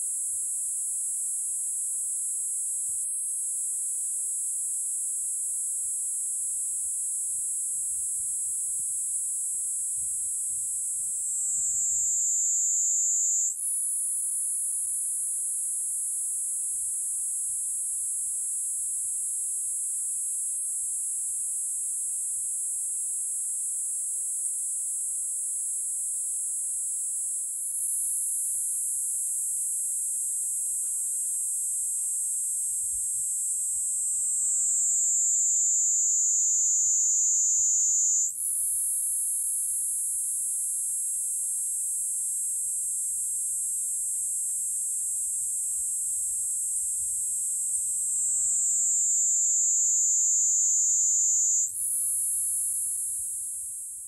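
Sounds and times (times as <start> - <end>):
cicada buzzing shrilly: 0.0 - 54.0.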